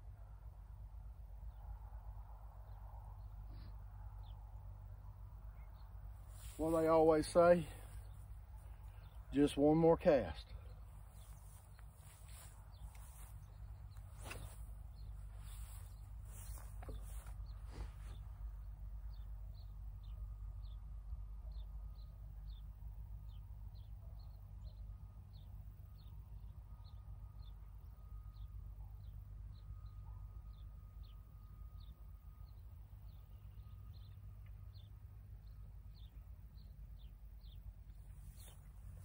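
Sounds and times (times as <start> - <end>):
faint low rumble: 0.0 - 39.0
bird chirping: 5.4 - 39.0.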